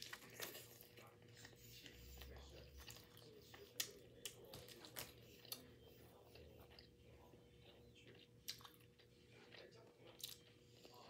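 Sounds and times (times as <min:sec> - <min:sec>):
close-up chewing with mouth clicks: 0:00.0 - 0:11.0.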